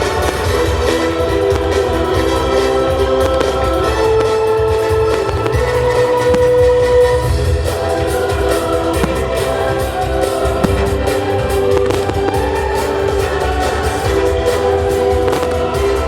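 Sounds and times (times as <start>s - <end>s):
firework bangs: 0.0s - 16.0s
music over loudspeakers: 0.0s - 16.0s.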